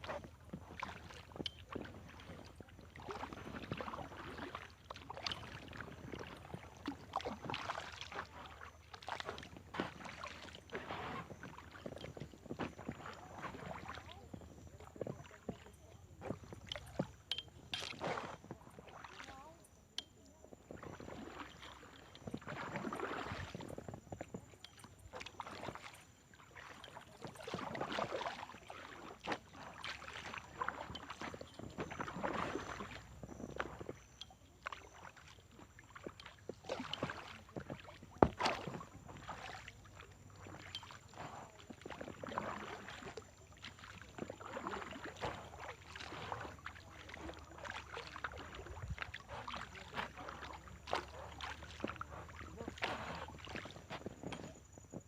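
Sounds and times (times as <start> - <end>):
kayak paddle swishing in water: 0.0 - 55.0.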